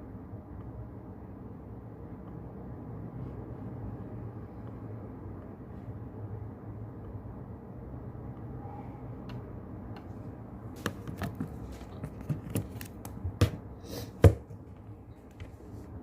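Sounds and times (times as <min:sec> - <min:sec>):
low hiss of brown noise: 0:00.0 - 0:16.0.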